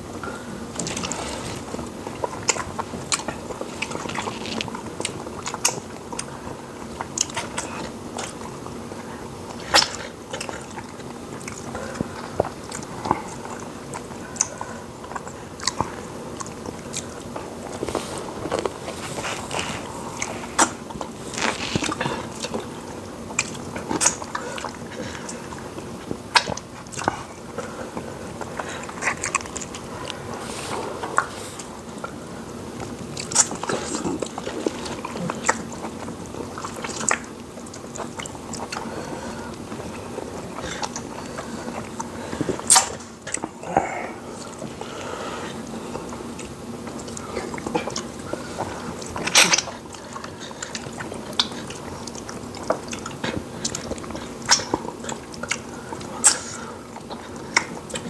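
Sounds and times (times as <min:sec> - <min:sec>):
wet chewing: 0:00.1 - 0:58.0
lip smacks: 0:00.7 - 0:58.0.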